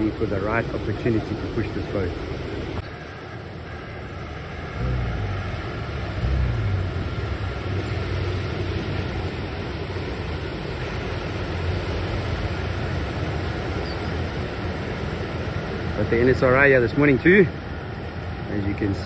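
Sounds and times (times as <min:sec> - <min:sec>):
surf rumbling: 0:00.0 - 0:19.0
wind: 0:00.0 - 0:19.0.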